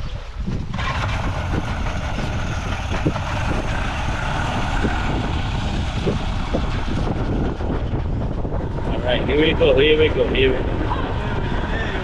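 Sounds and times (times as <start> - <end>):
motorboat engine running: 0.0 - 12.0
wind on microphone: 0.0 - 12.0.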